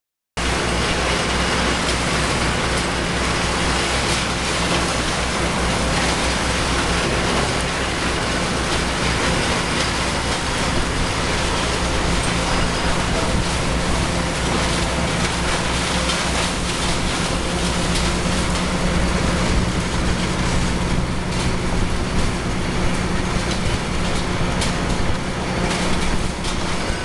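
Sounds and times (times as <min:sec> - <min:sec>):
tub grinder running: 0:00.4 - 0:27.0.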